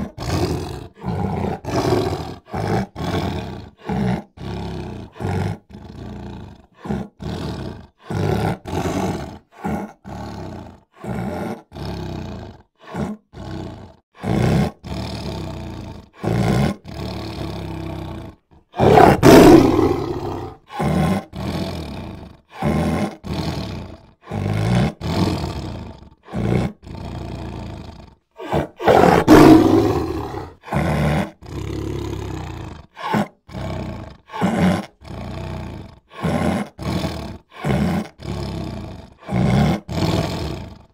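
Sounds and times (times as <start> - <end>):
big cat roaring: 0.0 - 40.9.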